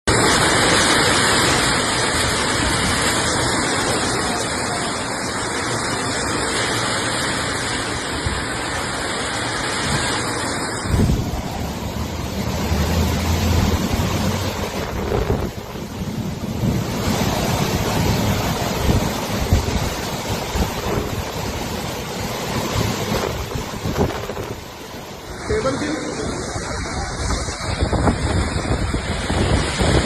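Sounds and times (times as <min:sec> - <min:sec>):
heavy rain pouring: 0:00.0 - 0:30.0
wind gusting against microphone: 0:00.1 - 0:30.0.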